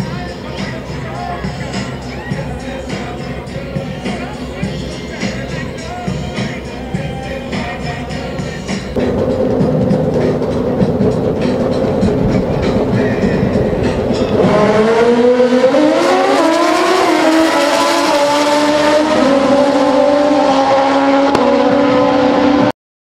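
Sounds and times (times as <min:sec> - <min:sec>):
motorcycle engines screaming: 0:00.0 - 0:22.7.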